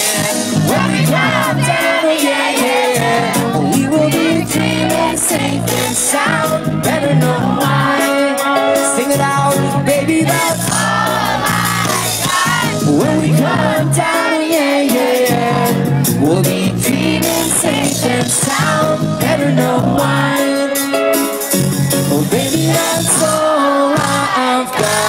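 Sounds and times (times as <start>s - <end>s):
person singing: 0.0s - 25.0s
reggae band playing live: 0.0s - 25.0s.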